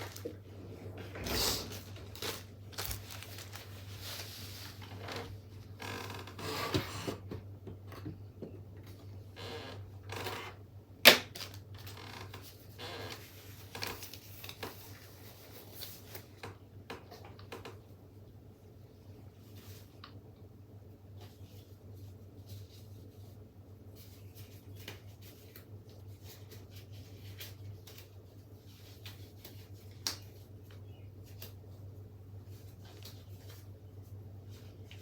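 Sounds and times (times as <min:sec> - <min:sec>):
rustling handling noises: 0:00.0 - 0:06.4, 0:11.4 - 0:35.0.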